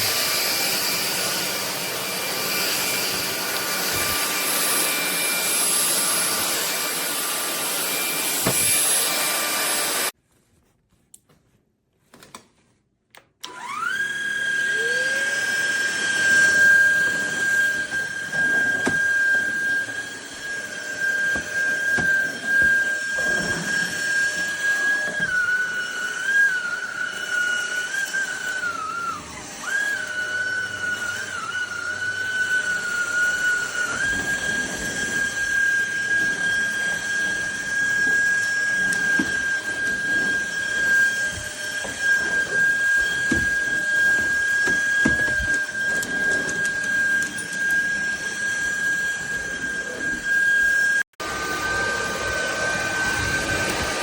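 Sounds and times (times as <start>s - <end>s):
vacuum motor whining: 0.0s - 10.1s, 13.4s - 54.0s.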